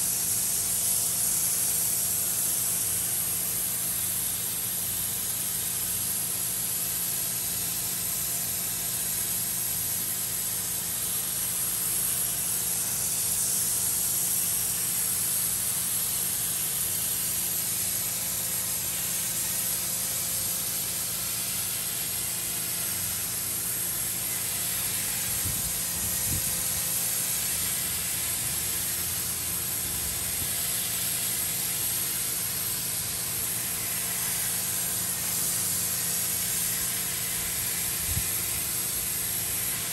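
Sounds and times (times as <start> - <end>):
pressure washer spray hiss: 0.0 - 39.9.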